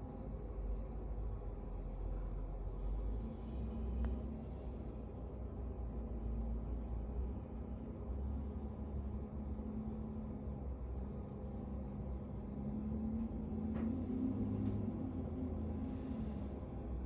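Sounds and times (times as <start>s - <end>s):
faint hum: 0.0s - 17.0s
low steady rumble: 0.0s - 17.0s.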